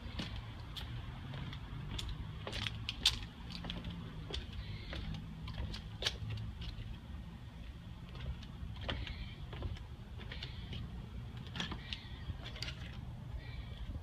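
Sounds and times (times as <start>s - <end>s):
footsteps on wooden boards: 0.0s - 13.0s.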